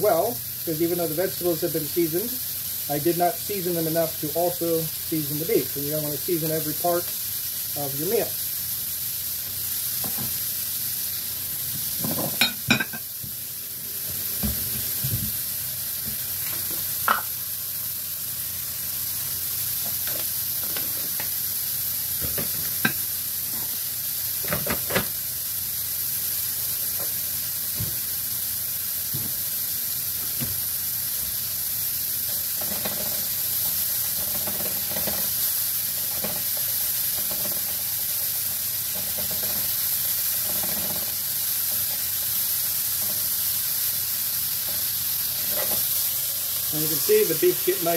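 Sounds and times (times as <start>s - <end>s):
meat sizzling in a frying pan: 0.0s - 47.9s.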